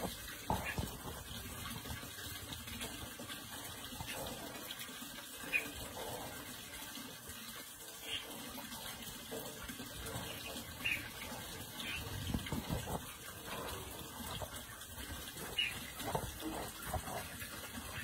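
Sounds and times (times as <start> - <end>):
water running and splashing: 0.0 - 18.0.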